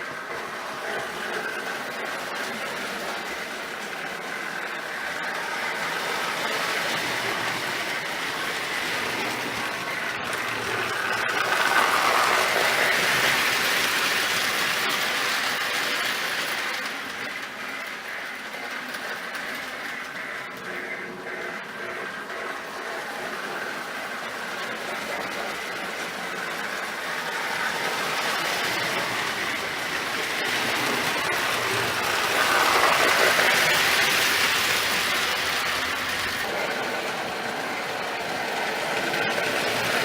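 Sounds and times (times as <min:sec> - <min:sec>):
toy train rolling and rattling: 0:00.0 - 0:40.0.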